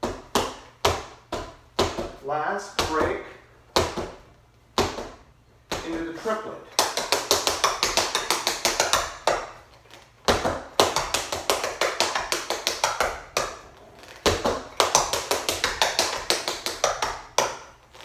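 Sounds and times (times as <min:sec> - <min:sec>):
tap shoes tapping on a mat: 0:00.0 - 0:02.2, 0:02.8 - 0:04.2, 0:04.8 - 0:06.1, 0:06.8 - 0:18.0.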